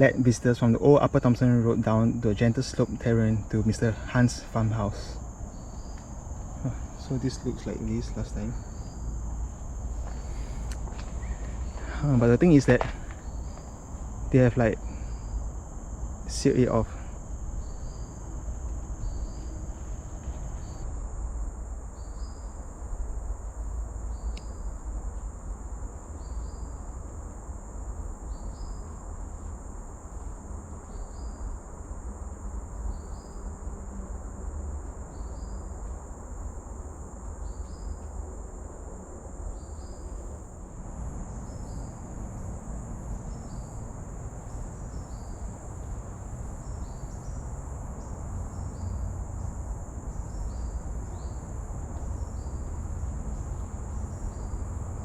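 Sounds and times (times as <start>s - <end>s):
insects droning: 0.0s - 55.0s
short insect chirp: 0.0s - 55.0s.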